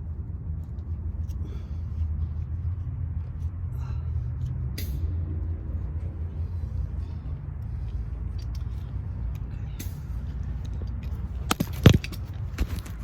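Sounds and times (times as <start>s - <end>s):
engine idling rumble: 0.0s - 13.0s.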